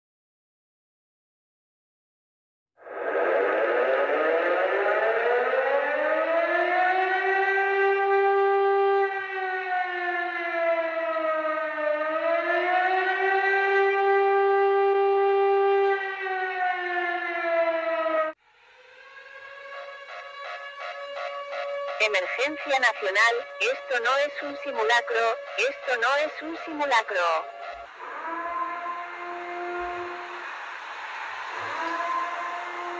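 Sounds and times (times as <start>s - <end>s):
warning siren wailing: 2.8s - 32.9s.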